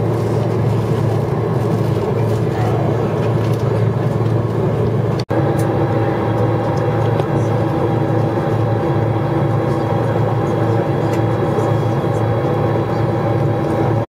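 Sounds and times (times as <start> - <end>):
airliner cabin hum: 0.0 - 14.0.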